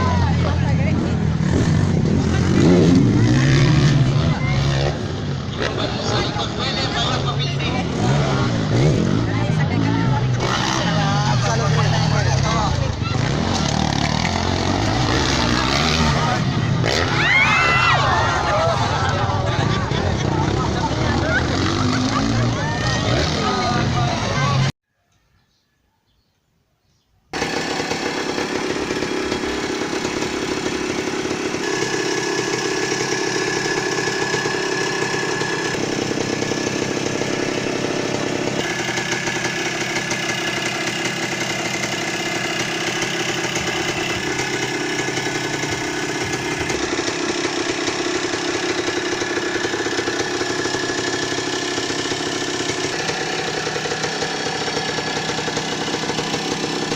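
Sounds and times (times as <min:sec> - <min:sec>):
dirt bike engines running: 0:00.0 - 0:24.7, 0:27.4 - 0:56.9.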